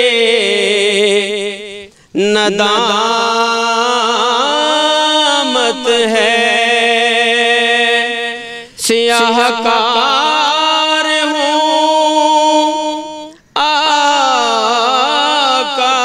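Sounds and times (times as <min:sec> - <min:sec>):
man singing solo: 0:00.0 - 0:16.0.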